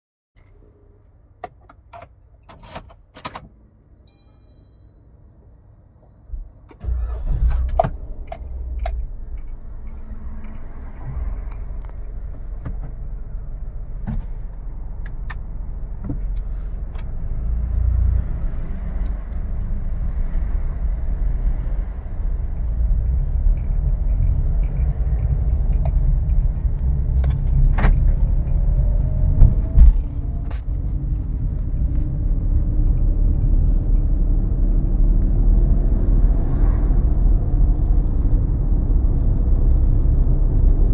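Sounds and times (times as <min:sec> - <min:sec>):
car engine and road rumble: 0:05.3 - 0:40.9.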